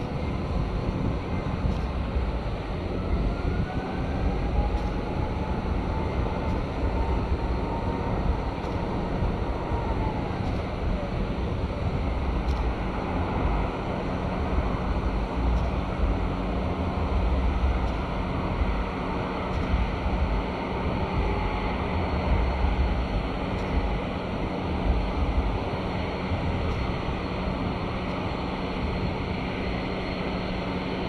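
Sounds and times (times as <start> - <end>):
distant jet engines whining: 0.0 - 31.0
wind on microphone: 0.0 - 31.0.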